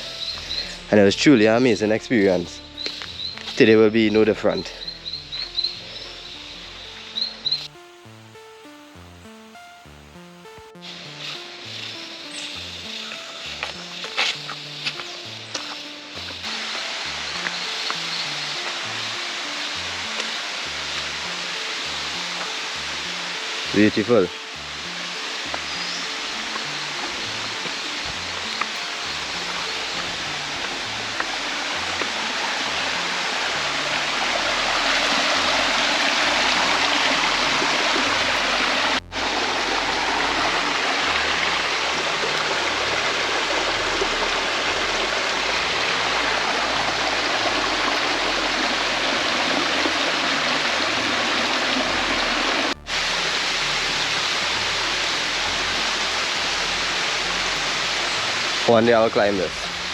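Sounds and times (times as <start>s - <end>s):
stream water flowing: 10.8s - 59.9s.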